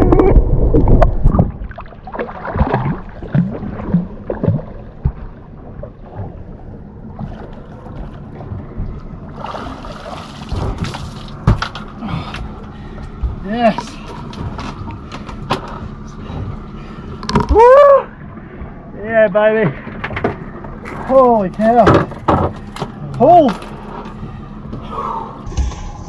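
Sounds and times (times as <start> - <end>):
fishing boat noise: 0.0 - 26.0.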